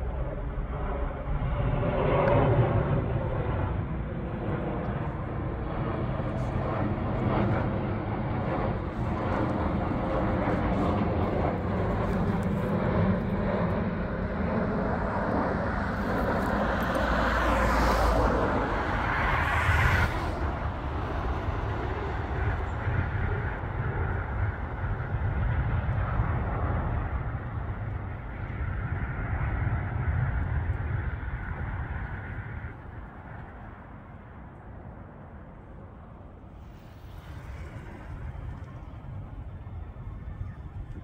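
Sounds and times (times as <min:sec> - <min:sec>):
outdoor background rumble: 0:00.0 - 0:41.0.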